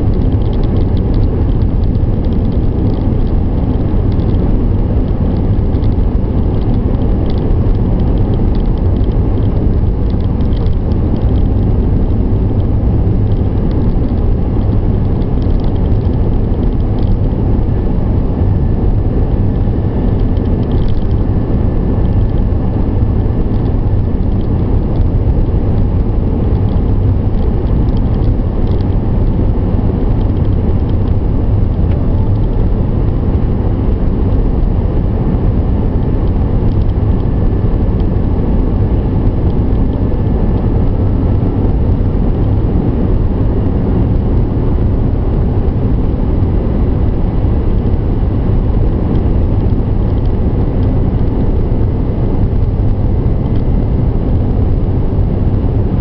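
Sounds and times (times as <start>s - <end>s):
car cabin road and engine rumble: 0.0s - 56.0s.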